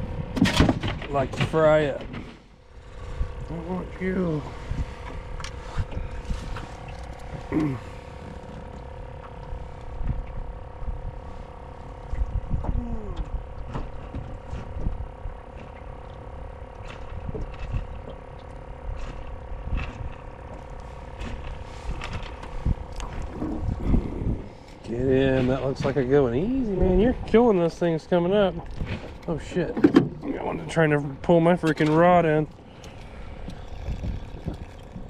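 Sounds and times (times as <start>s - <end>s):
steady two-pitched hum: 0.0s - 35.0s.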